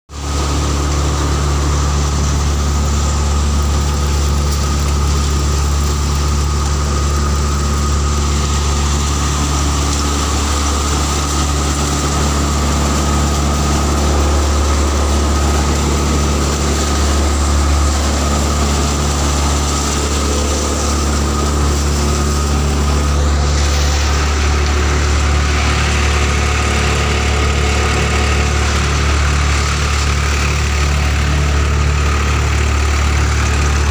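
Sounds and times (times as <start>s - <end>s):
thresher machine droning: 0.1s - 33.9s.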